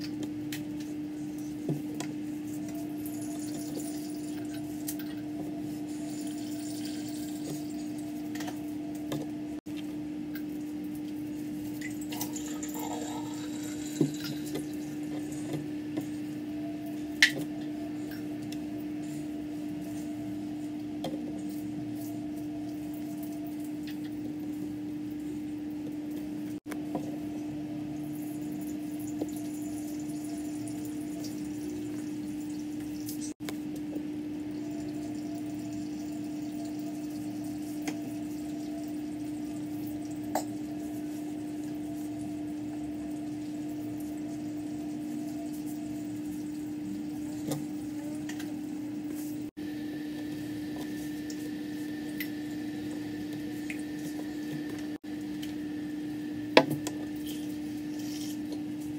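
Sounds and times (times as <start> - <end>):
steady low hum: 0.0 - 58.9
water trickling through coffee grounds: 0.0 - 58.9.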